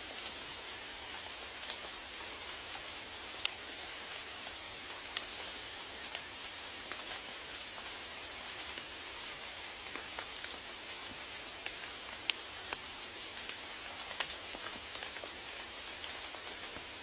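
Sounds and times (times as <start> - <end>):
rain hiss: 0.0 - 17.0
raindrops dripping: 0.0 - 17.0.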